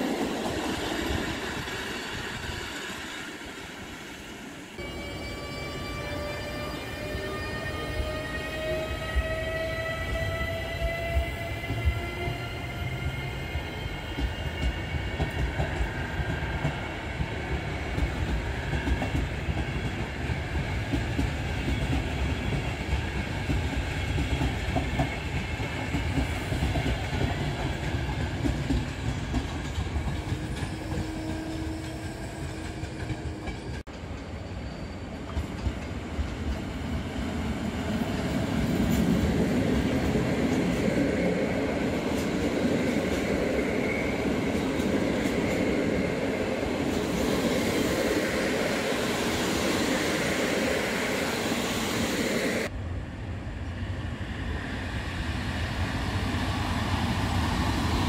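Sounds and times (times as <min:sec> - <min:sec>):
train wheels rumbling on rails: 0:00.0 - 0:52.8
passenger train passing: 0:00.0 - 0:58.0.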